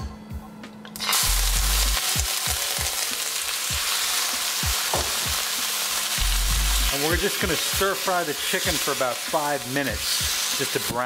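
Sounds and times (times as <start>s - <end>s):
background music with steady beat: 0.0s - 11.0s
chicken sizzling in hot oil: 1.0s - 11.0s.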